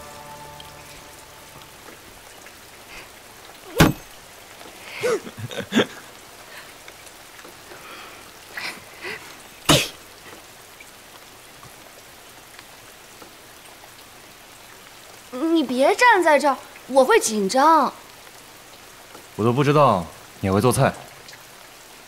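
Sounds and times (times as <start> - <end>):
rain hissing: 0.0 - 22.0.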